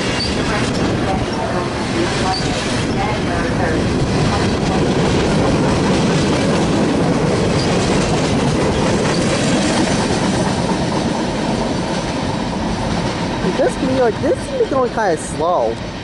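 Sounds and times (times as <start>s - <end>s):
freight train cars rolling past: 0.0s - 16.0s.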